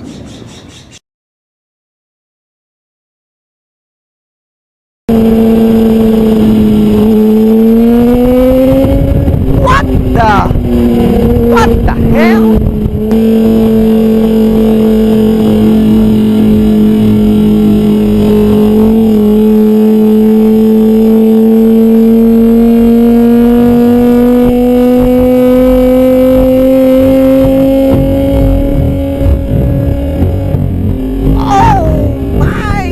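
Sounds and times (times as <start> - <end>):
motorbike engine revving high: 5.1 - 32.9.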